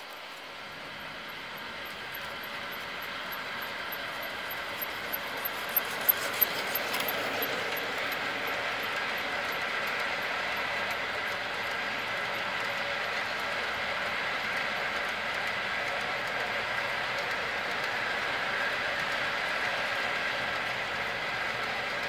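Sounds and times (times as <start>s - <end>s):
model train wheels on rails: 0.0s - 22.0s
sharp clicks of locomotive: 0.0s - 22.0s.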